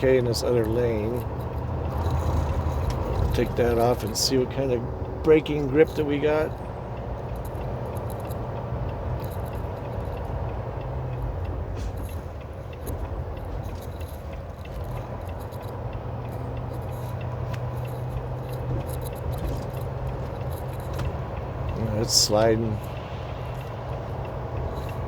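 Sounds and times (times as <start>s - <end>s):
truck engine and road drone: 0.0s - 25.0s.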